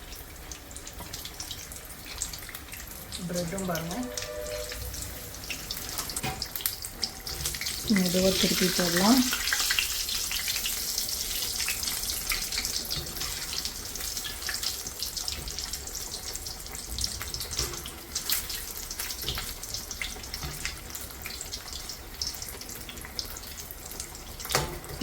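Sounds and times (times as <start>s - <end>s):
food deep-frying in oil: 0.0s - 25.0s.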